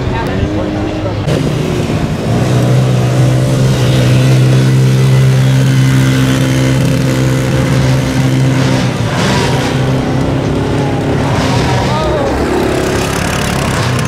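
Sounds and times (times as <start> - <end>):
quad engine running: 0.0 - 14.0.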